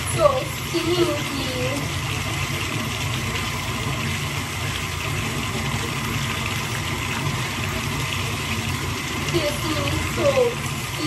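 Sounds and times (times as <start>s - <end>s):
water running in a bathtub: 0.0s - 11.0s.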